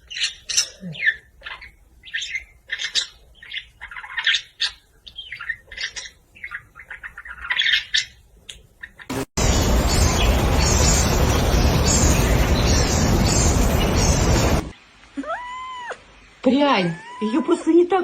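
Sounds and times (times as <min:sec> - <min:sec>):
bird chirping and squawking: 0:00.0 - 0:14.6.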